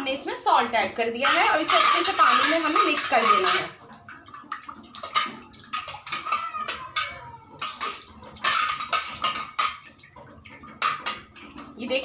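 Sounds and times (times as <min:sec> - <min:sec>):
water splashing in metal bowl: 0:01.1 - 0:12.0.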